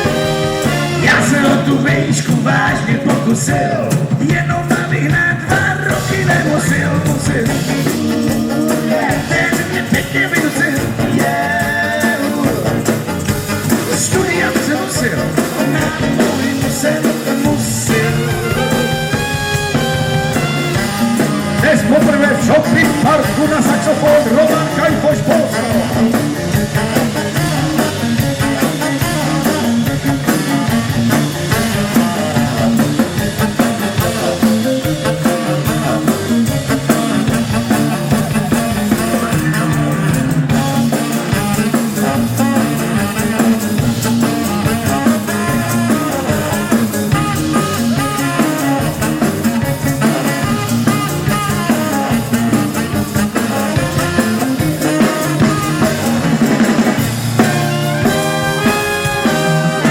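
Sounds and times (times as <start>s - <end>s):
rock band playing instrumental: 0.0s - 59.9s.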